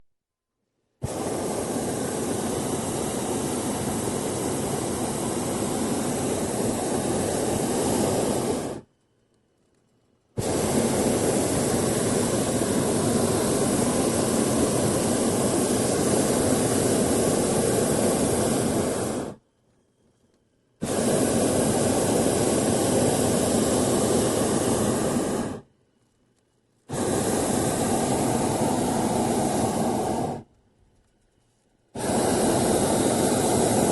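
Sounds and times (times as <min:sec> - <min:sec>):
propane burner blasts: 0:01.0 - 0:08.9, 0:10.3 - 0:19.4, 0:20.8 - 0:25.7, 0:26.9 - 0:30.6, 0:31.9 - 0:33.9.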